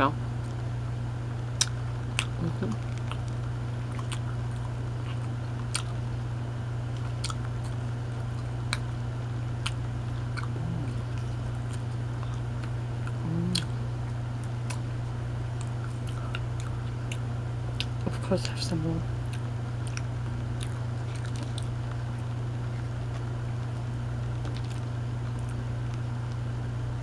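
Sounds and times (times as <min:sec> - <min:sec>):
low electrical hum: 0:00.0 - 0:27.0
low hums through the mouth: 0:00.0 - 0:27.0
person chewing bread: 0:01.5 - 0:18.0, 0:19.2 - 0:26.9.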